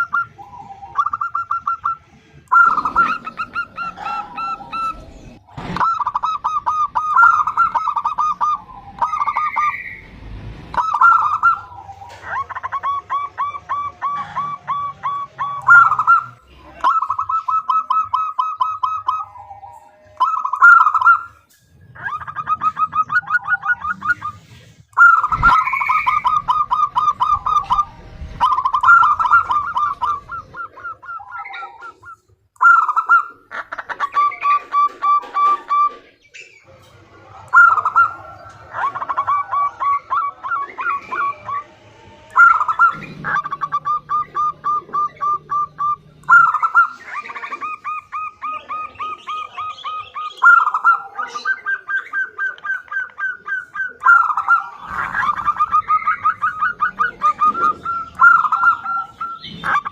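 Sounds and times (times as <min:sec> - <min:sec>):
doves calling in staccato notes: 0:00.0 - 0:59.9.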